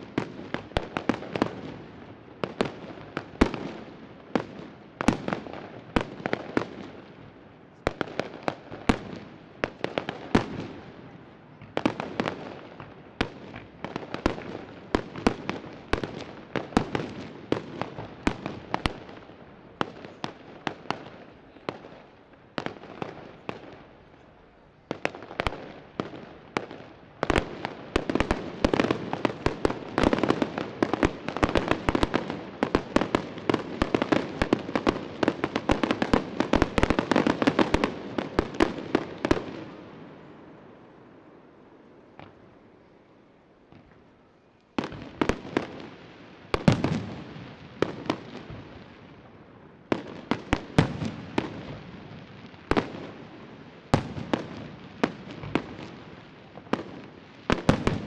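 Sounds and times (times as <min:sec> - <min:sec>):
fireworks bursting: 0:00.0 - 0:24.2, 0:24.8 - 0:40.6, 0:44.8 - 0:58.0.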